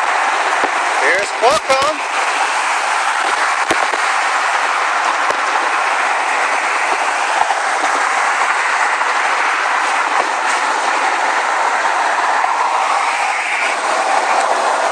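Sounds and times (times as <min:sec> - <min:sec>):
car road and wind noise: 0:00.0 - 0:14.9.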